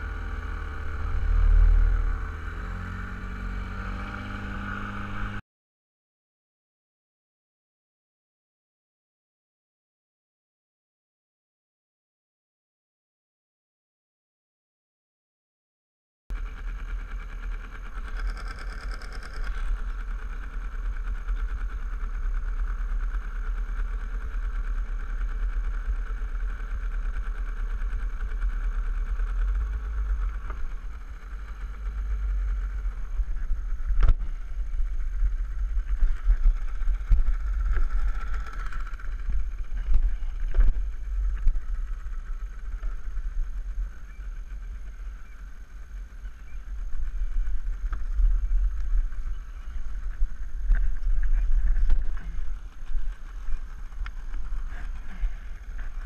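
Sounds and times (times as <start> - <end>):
boat motor running: 0.0 - 5.4, 16.3 - 56.0.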